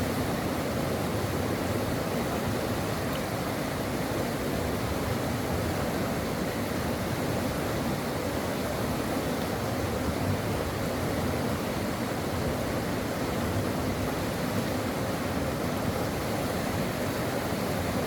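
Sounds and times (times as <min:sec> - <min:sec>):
brook water flowing: 0:00.0 - 0:18.0.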